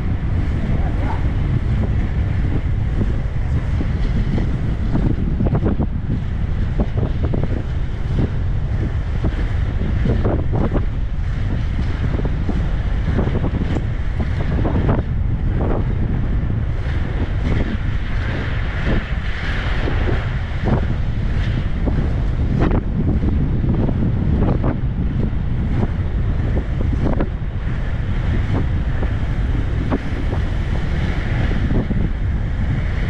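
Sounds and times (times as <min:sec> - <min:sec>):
skate wheels rumbling on asphalt: 0:00.0 - 0:33.0
wind buffeting microphone: 0:00.0 - 0:33.0.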